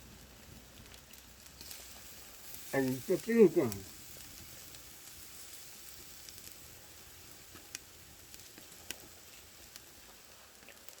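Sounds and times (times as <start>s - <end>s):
pork sizzling on a grill: 0.0s - 11.0s.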